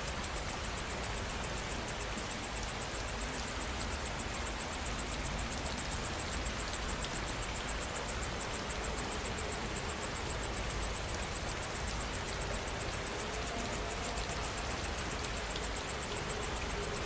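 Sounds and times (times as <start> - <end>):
insect chirping: 0.0 - 17.0
steady rain: 0.0 - 17.0.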